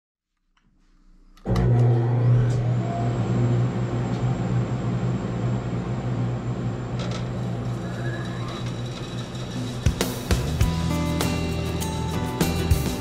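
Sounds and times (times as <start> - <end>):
band saw motor hum with whine: 1.4 - 12.6.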